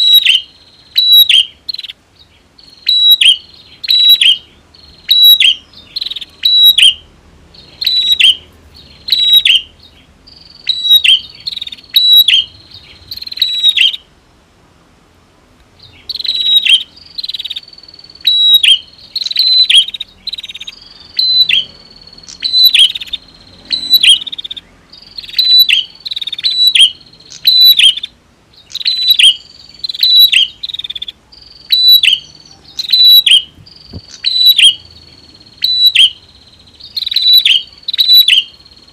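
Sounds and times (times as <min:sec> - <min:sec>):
birds chirping sharply: 0:00.0 - 0:14.4, 0:15.7 - 0:38.9.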